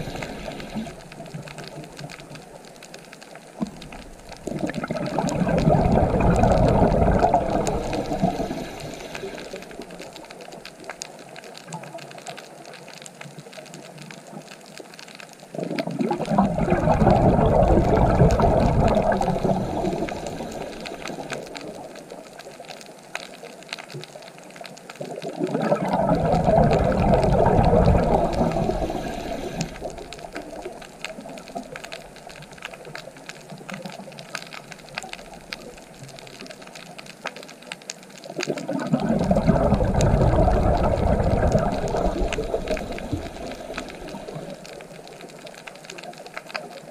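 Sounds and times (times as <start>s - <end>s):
underwater exhaled bubbles rushing: 0.0s - 12.5s, 15.5s - 22.9s, 24.7s - 46.9s
faint crackling: 0.0s - 46.9s.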